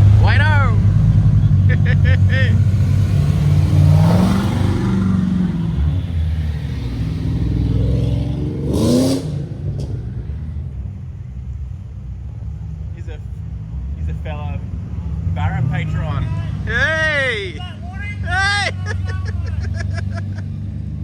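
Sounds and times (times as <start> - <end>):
car engine revving: 0.0 - 10.7, 12.3 - 21.0
car engines running at low revs: 0.0 - 21.0.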